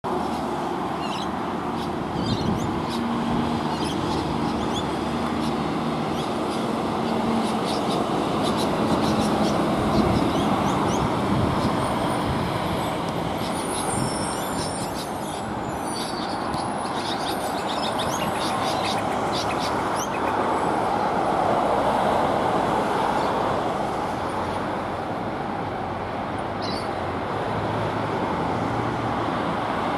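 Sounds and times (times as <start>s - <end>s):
background traffic: 0.0s - 29.9s.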